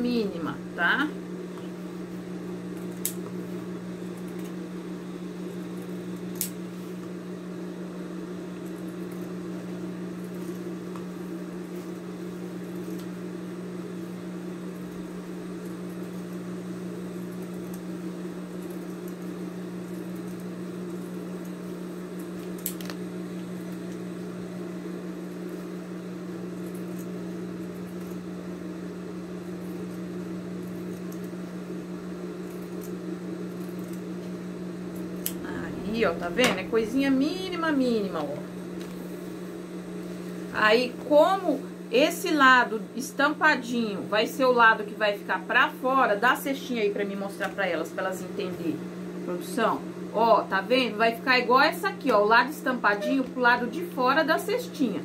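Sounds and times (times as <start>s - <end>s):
low electric hum: 0.0s - 55.0s.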